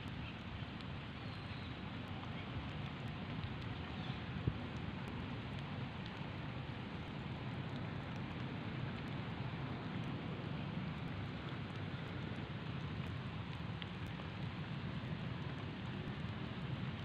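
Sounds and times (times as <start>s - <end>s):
faint ticks: 0.0s - 17.0s
rushing outdoor background noise: 0.0s - 17.0s.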